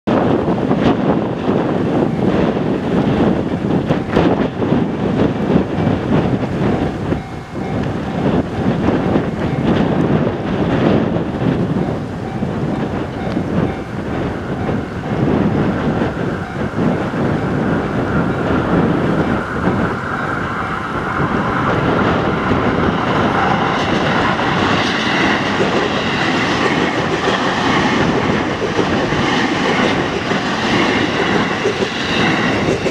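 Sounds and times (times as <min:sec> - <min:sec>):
electric train passing: 0:00.1 - 0:32.9
train wheels clattering over rails: 0:00.1 - 0:32.9.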